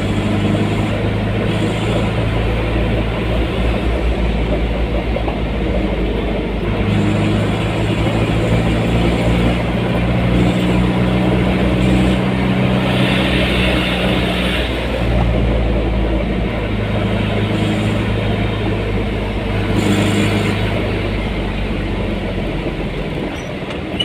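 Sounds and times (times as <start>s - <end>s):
road rumble: 0.0s - 24.0s
vehicle engine running: 0.0s - 24.0s.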